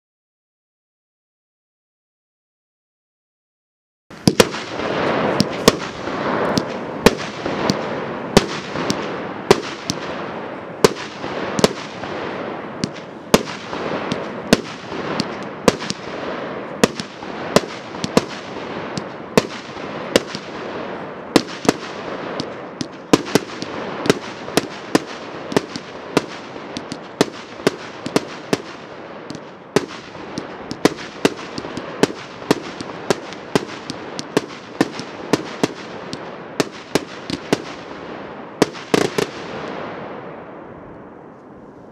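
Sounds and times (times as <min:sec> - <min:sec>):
sharp firework bangs: 0:04.1 - 0:40.4
continuous hiss: 0:04.1 - 0:41.9.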